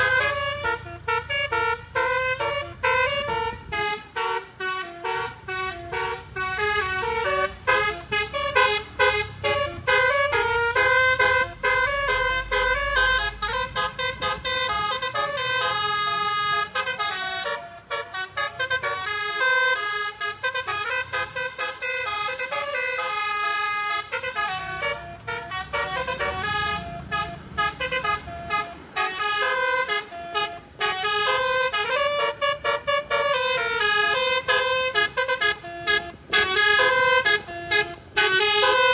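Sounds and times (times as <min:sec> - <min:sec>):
air horns playing a tune: 0:00.0 - 0:38.9
low engine rumble: 0:00.0 - 0:38.9.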